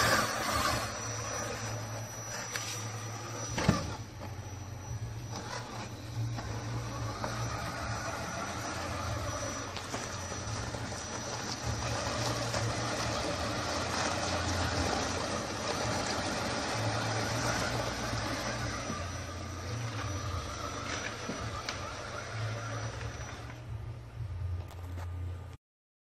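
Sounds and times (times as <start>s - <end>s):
electric motor and gears whirring: 0.0s - 25.6s.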